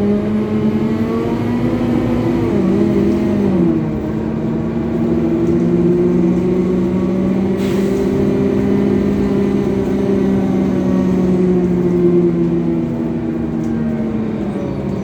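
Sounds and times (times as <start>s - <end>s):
diesel engine drone: 0.0s - 15.0s
road rumble: 0.0s - 15.0s.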